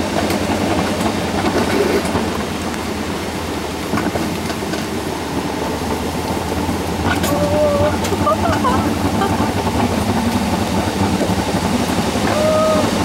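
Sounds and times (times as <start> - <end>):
coaster wheels rumbling on rails: 0.0 - 13.0.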